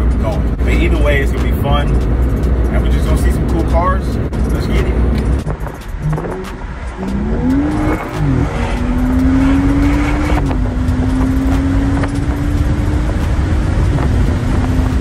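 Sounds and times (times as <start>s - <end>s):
car engine accelerating: 0.0s - 15.0s
road noise rumble: 0.0s - 15.0s.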